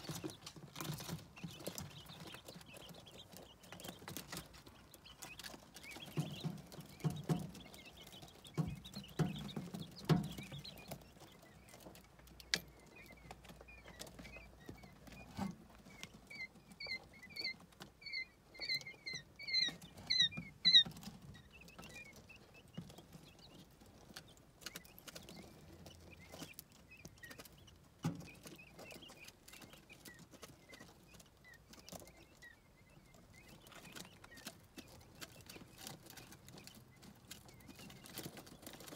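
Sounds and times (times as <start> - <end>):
chicks pecking and scratching: 0.0 - 38.9
high chick peeps: 0.0 - 38.9.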